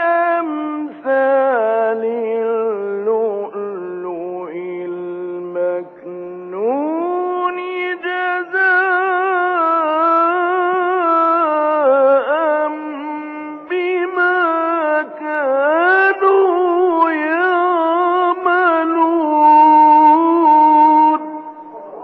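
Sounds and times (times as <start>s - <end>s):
man chanting melodic recitation: 0.0s - 22.0s.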